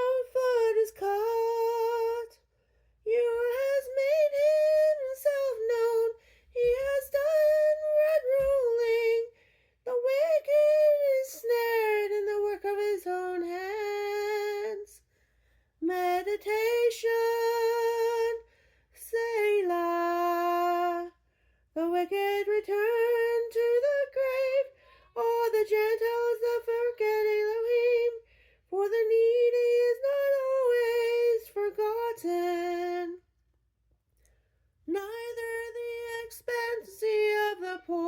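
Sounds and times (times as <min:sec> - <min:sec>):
woman singing unaccompanied: 0:00.0 - 0:15.1, 0:15.8 - 0:33.3, 0:34.8 - 0:38.0.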